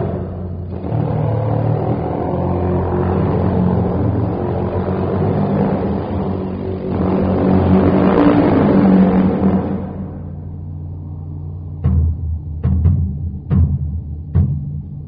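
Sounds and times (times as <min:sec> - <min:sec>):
deep sustained instrumental drone: 0:00.0 - 0:15.0.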